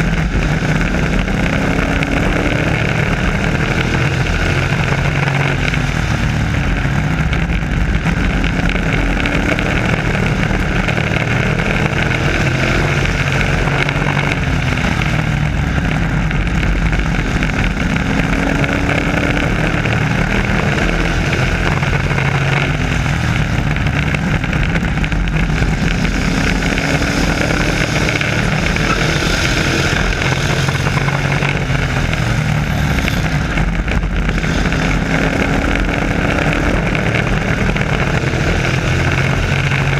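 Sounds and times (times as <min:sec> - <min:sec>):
race truck engines passing by: 0:00.0 - 0:39.9.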